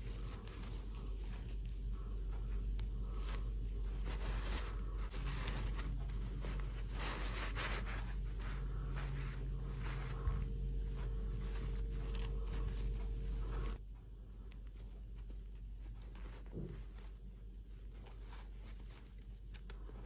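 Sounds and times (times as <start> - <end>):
fabric rustling against plastic doll: 0.0 - 13.8, 14.7 - 20.0
steady low hum: 0.0 - 20.0.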